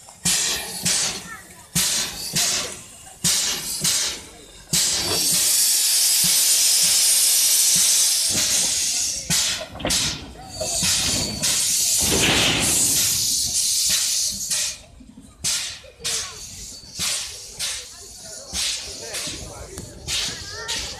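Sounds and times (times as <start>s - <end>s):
steam locomotive venting steam: 0.0s - 20.9s.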